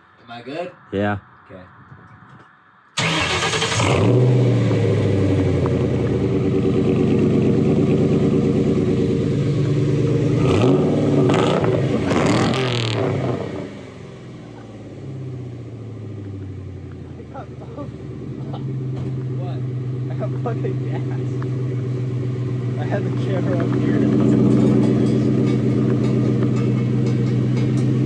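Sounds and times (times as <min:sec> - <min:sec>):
car engine idling: 0:03.0 - 0:28.0
car engine revving: 0:03.0 - 0:28.0.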